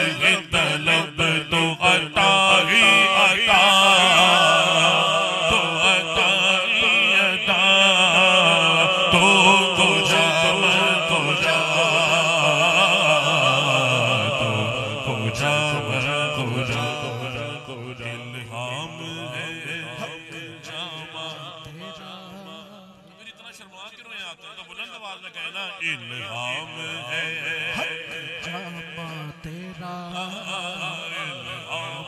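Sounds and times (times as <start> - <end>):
man singing unaccompanied: 0.0 - 23.4, 24.7 - 32.0.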